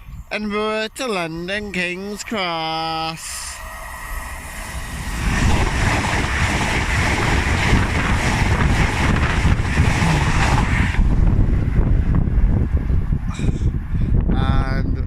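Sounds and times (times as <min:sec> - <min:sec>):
wind buffeting microphone: 0:00.0 - 0:00.3, 0:01.5 - 0:15.0
train passing at speed: 0:01.1 - 0:14.2.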